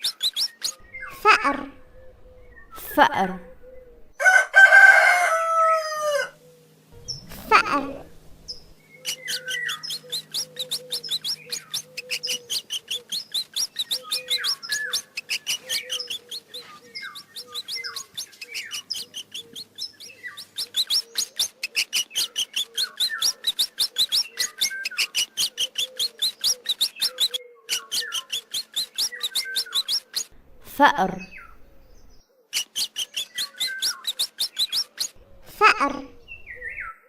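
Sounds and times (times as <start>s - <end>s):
mouse squeaking: 0.0s - 4.2s, 7.0s - 36.9s.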